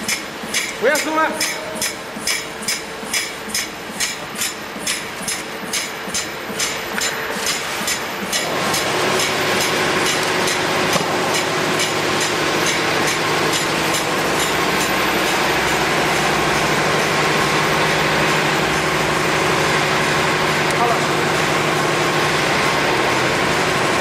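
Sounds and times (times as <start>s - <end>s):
machine running with hum: 0.0s - 24.0s.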